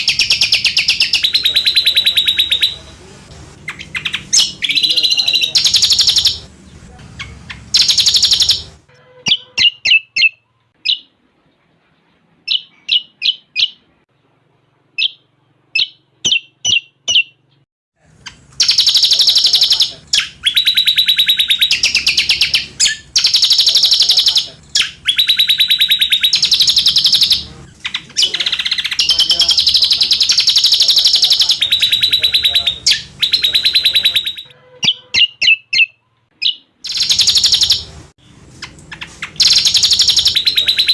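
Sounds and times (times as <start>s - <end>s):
bird singing chirps and trills: 0.0s - 3.0s, 3.6s - 14.0s, 15.0s - 17.6s, 18.2s - 37.9s, 38.6s - 40.9s.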